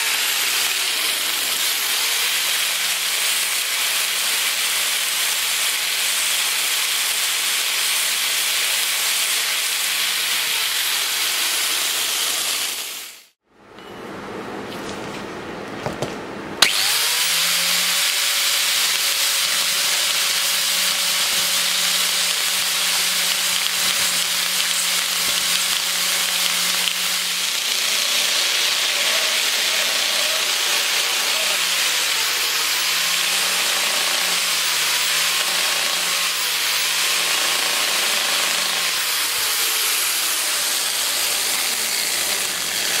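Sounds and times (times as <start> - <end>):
sanding belt hiss: 0.0 - 13.3, 16.8 - 43.0
angle grinder whining: 0.0 - 13.4, 16.6 - 43.0.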